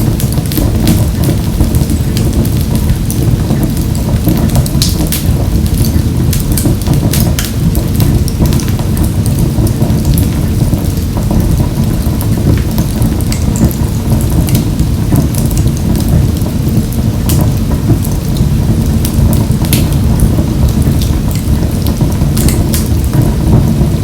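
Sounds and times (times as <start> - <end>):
fire crackling in a stove: 0.0 - 24.0.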